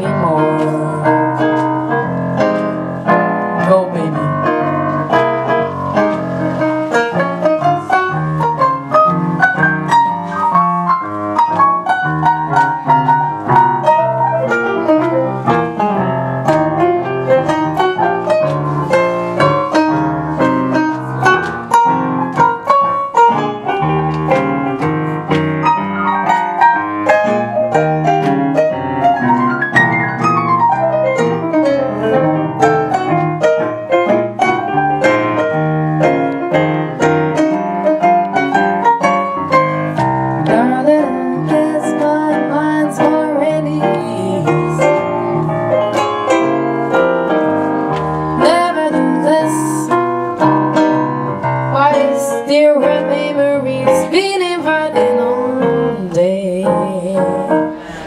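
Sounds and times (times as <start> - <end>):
digital keyboard jazz solo: 0.0 - 57.8.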